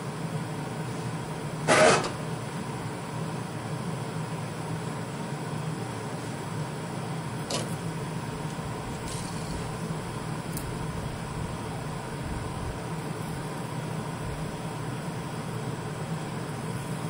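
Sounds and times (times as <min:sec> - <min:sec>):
mechanical hum with low drone: 0:00.0 - 0:17.0.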